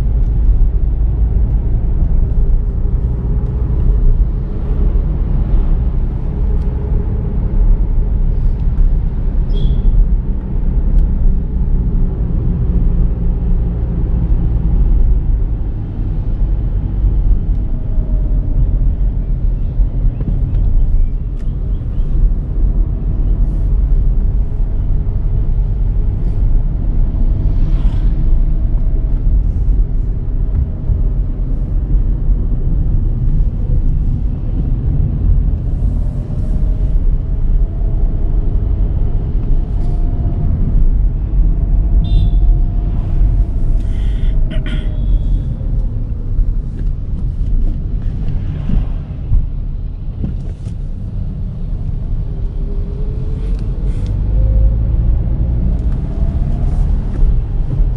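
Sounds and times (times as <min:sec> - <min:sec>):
car engine rumbling: 0:00.0 - 0:57.9.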